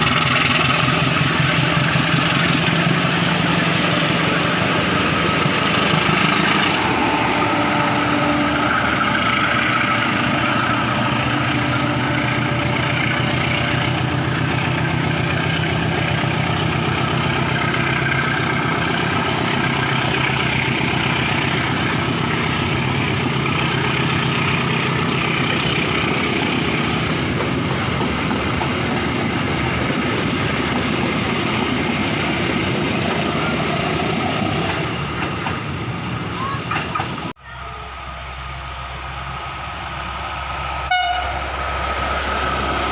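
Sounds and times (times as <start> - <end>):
diesel train running on tracks: 0.0 - 42.9.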